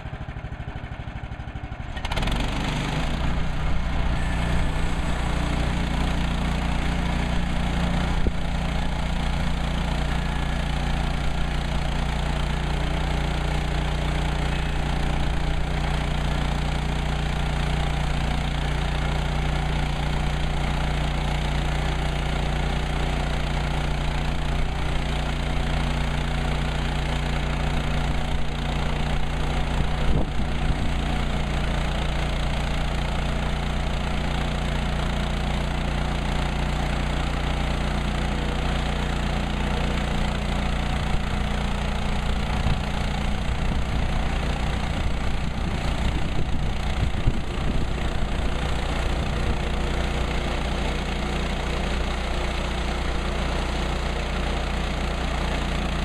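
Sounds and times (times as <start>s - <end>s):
sawmill gas engine running: 0.0s - 56.0s.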